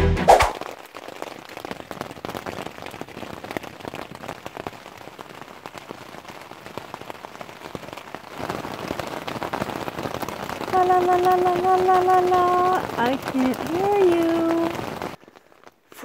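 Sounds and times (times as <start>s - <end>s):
rain pattering on a tent: 0.2s - 16.0s.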